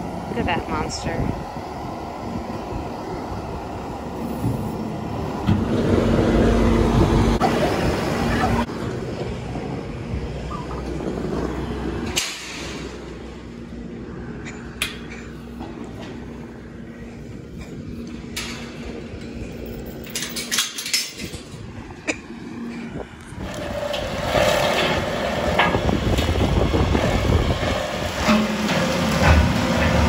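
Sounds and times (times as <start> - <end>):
diesel engine humming: 0.0 - 20.3, 21.4 - 30.0.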